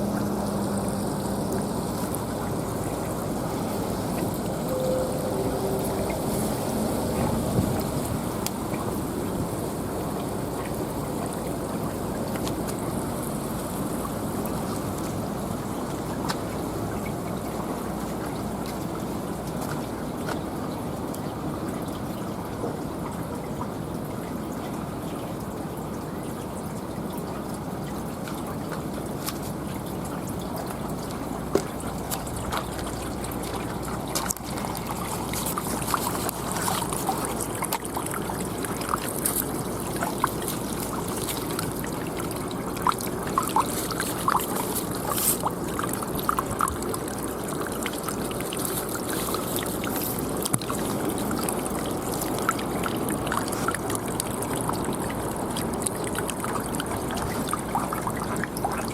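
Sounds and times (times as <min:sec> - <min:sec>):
small water drips: 0:00.0 - 0:58.9
water trickling and splashing: 0:00.0 - 0:58.9.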